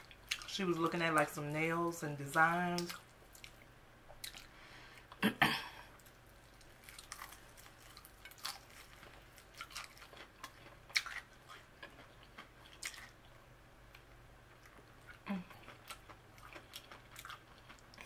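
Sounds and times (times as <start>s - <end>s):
crunchy chewing of fried chicken: 2.8s - 5.2s, 5.9s - 18.0s.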